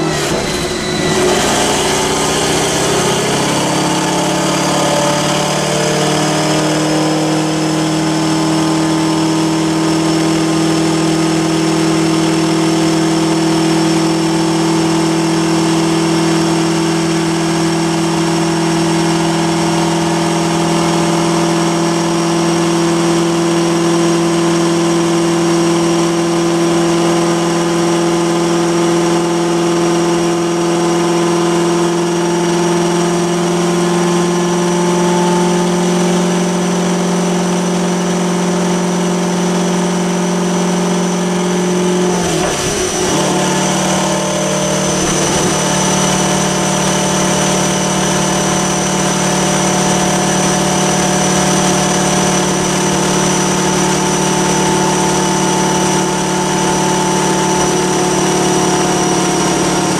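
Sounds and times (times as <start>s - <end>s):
car engine and drivetrain running: 0.0s - 59.9s.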